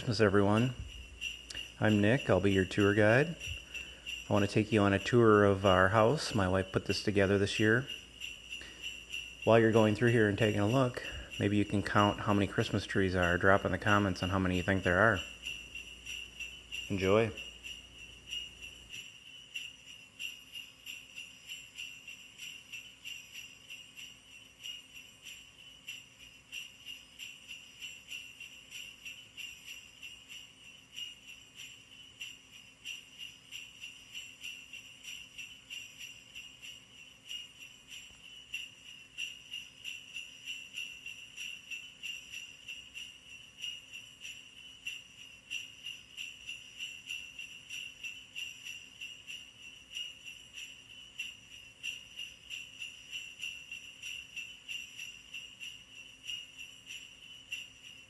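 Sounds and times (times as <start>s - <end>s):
sleigh bells jingling: 0.0s - 58.0s.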